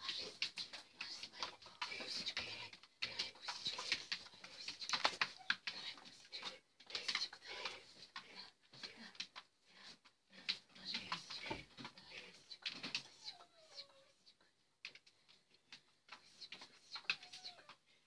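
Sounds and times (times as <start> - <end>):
clicks of dog moving about: 0.0 - 13.9, 14.8 - 17.8.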